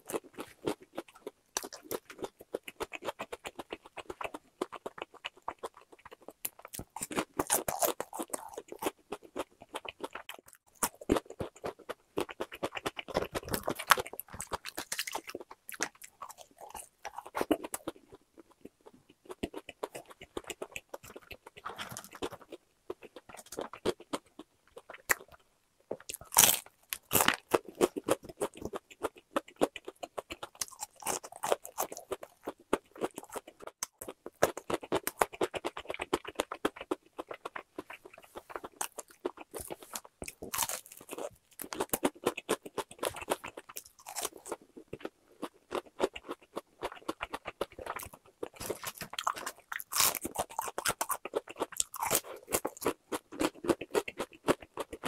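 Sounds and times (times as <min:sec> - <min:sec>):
crunching crispy fried chicken: 0:00.0 - 0:55.0.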